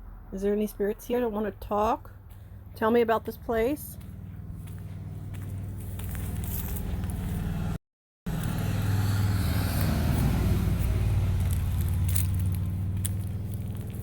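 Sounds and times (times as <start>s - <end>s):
car engine humming: 2.6s - 14.0s.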